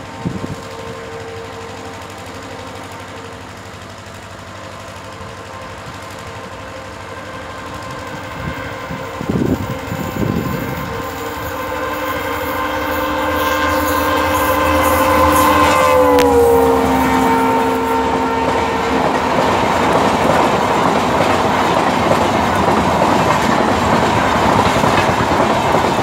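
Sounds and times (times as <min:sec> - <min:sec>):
diesel locomotive approaching: 0:00.0 - 0:26.0.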